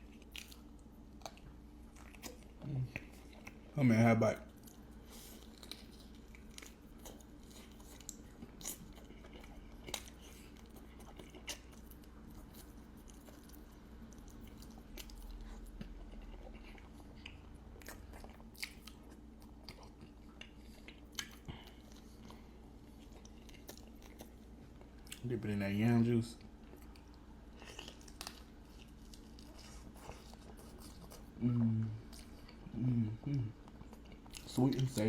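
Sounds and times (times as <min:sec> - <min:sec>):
person chewing food: 0:00.0 - 0:03.8, 0:04.4 - 0:25.3, 0:26.4 - 0:35.0.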